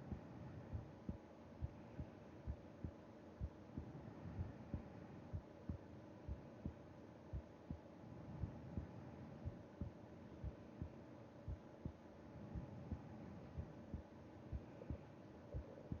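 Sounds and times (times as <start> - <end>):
heartbeat thumps: 0.0 - 16.0.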